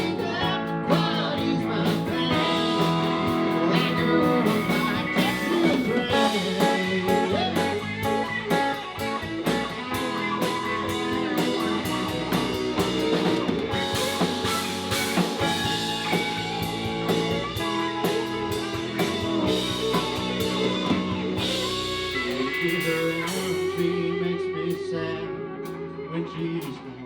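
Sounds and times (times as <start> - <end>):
drum kit beat: 0.0 - 24.0
guitars: 0.0 - 27.0.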